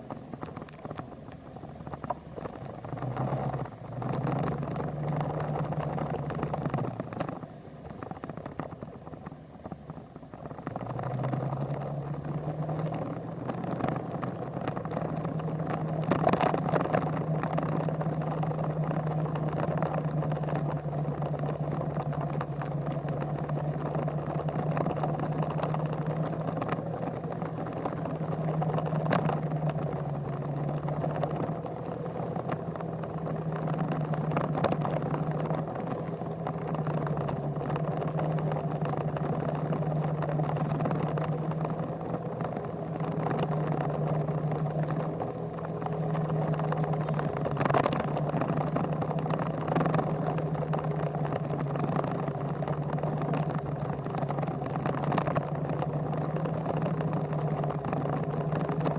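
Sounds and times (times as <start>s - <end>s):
engine humming: 0.0s - 58.9s.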